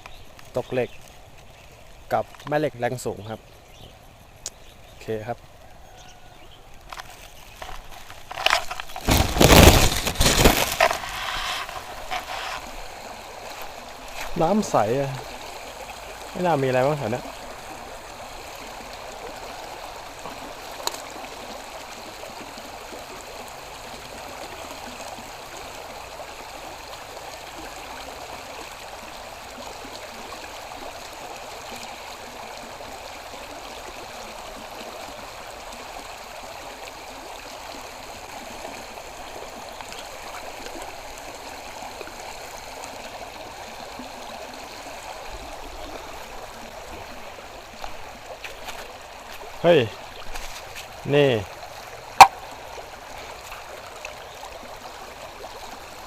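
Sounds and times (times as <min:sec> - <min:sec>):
water flowing: 0:00.0 - 0:56.0.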